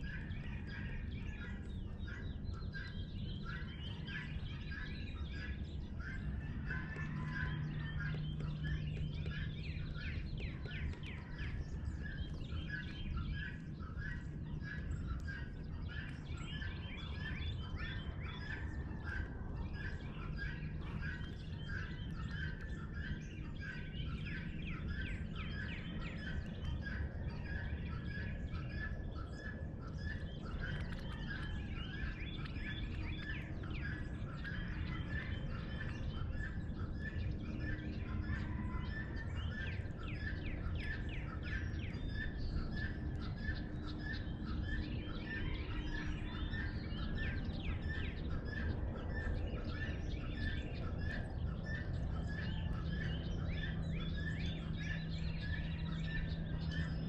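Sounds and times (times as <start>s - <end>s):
birds chirping and calling: 0.0s - 57.0s
low steady rumble and hum: 0.0s - 57.0s.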